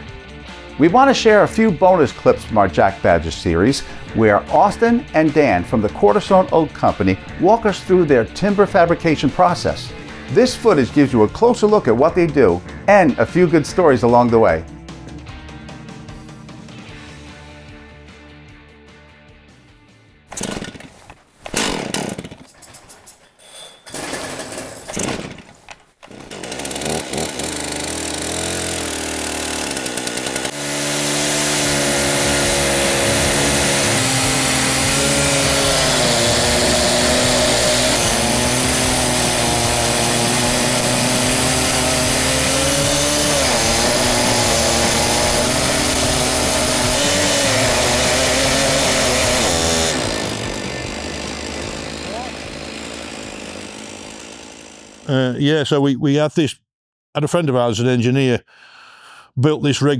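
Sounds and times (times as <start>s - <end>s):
chainsaw mill cutting log: 0.8s - 17.2s, 20.3s - 22.6s, 23.9s - 55.3s.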